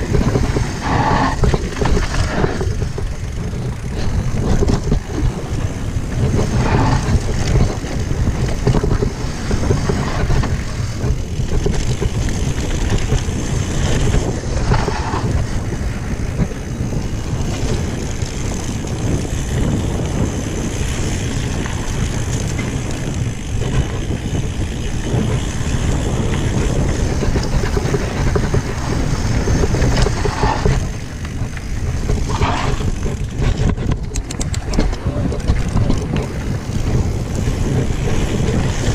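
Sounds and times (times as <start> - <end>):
bike tyre and frame rumble: 0.0 - 38.9
wind rushing over microphone: 0.0 - 38.9.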